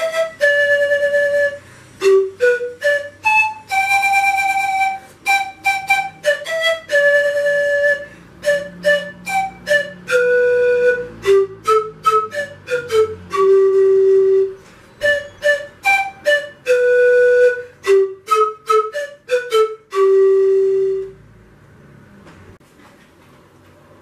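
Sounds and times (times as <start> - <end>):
panpipe melody: 0.0 - 21.2.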